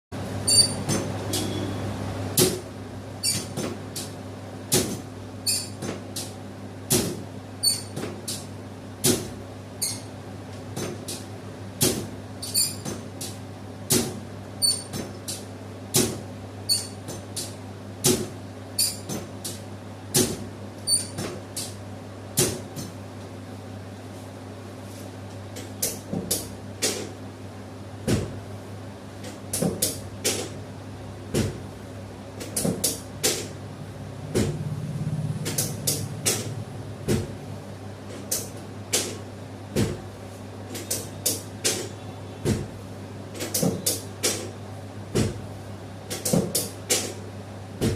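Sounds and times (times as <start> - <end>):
steady electrical hum: 0.2 - 47.9.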